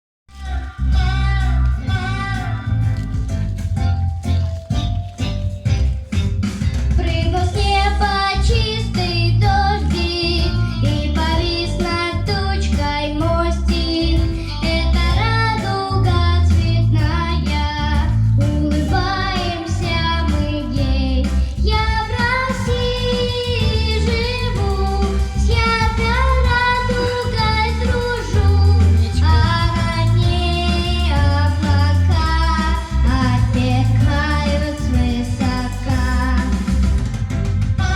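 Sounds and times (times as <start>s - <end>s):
girl singing: 0.3s - 3.5s, 7.0s - 36.7s
backing track with pulsing bass: 0.3s - 37.9s.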